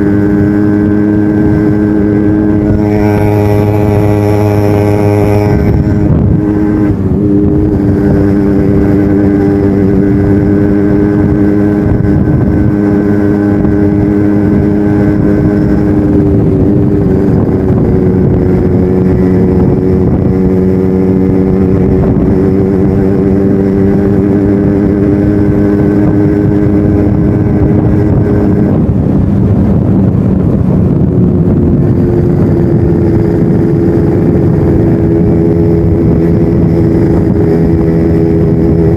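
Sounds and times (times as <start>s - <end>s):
two-stroke motorcycle engine running: 0.0s - 38.9s.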